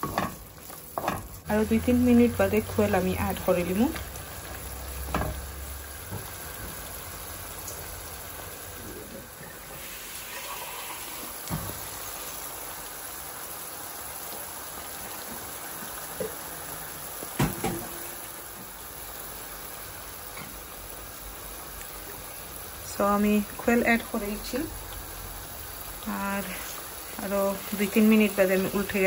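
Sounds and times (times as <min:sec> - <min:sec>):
sauce sizzling in a frying pan: 0:00.0 - 0:29.0.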